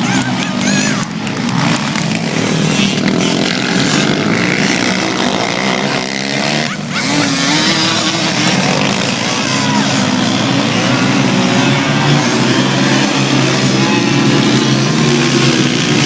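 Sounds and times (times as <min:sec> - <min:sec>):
racing atv engines: 0:00.0 - 0:16.0.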